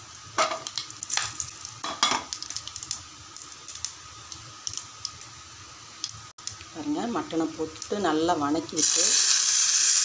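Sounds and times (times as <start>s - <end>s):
spices crackling in hot oil: 0.0s - 10.0s.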